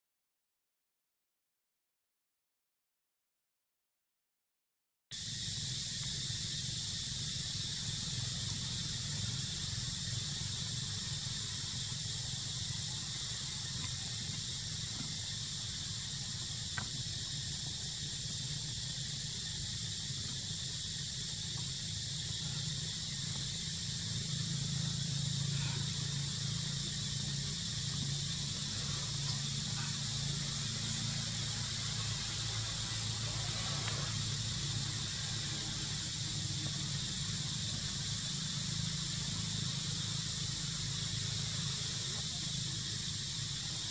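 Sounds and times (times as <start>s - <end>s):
insects droning high-pitched: 5.2s - 43.9s
low steady rumble: 5.3s - 43.9s.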